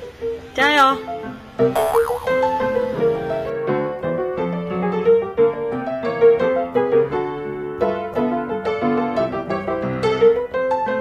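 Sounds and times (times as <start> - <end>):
light piano tune: 0.0 - 11.0.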